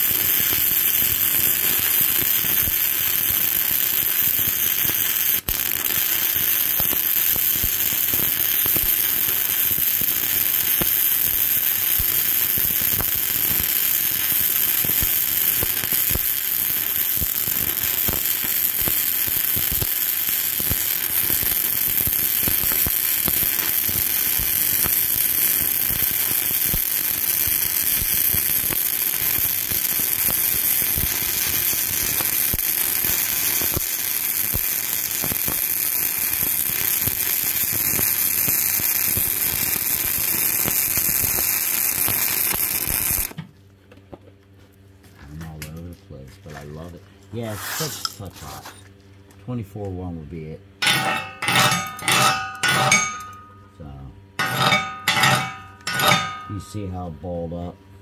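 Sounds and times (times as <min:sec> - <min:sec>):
welding arc crackle: 0:00.0 - 0:43.4, 0:47.5 - 0:48.8, 0:50.8 - 0:53.6, 0:54.4 - 0:56.9.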